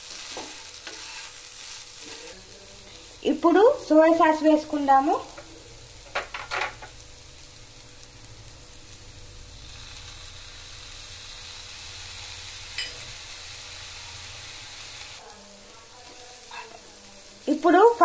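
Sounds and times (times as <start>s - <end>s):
noodles sizzling in a frying pan: 0.0s - 18.0s.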